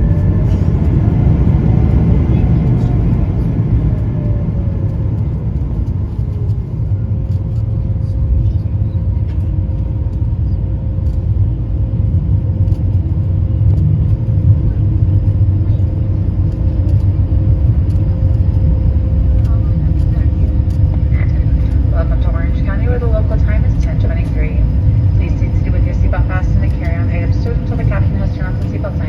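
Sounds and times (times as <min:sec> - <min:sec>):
aircraft rolling rumble: 0:00.0 - 0:29.0
faint jet engine whine: 0:00.0 - 0:29.0.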